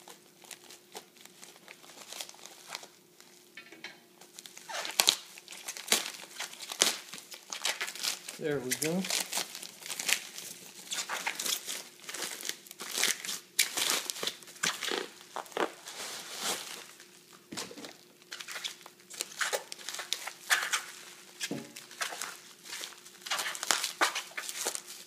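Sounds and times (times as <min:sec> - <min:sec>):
plastic packaging crinkling: 0:00.0 - 0:03.4, 0:04.2 - 0:25.0.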